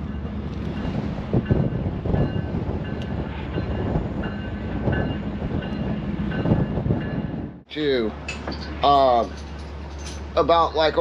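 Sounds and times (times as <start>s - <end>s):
freight train rumbling: 0.0s - 11.0s
train knocks and clanks: 0.0s - 11.0s.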